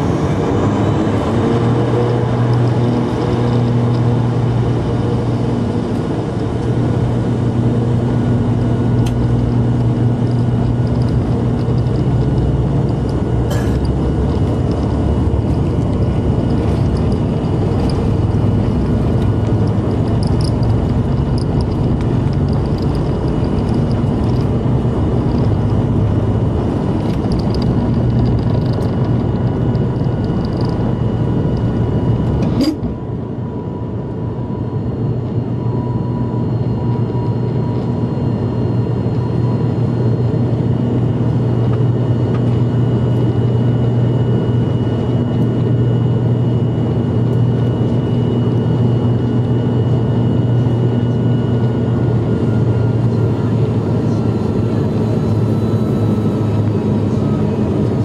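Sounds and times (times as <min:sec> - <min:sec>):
runway rumble: 0:00.0 - 0:36.2, 0:46.4 - 0:58.0
turboprop engines drone: 0:00.0 - 0:58.0.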